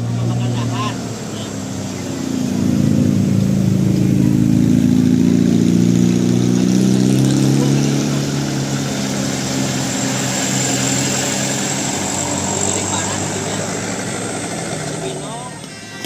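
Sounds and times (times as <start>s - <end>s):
large vehicle engine passing: 0.0s - 16.0s.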